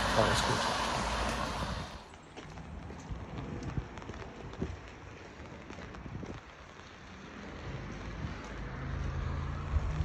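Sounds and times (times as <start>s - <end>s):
rain falling on wet street: 0.0s - 10.0s
vehicle engine hum: 0.0s - 10.0s.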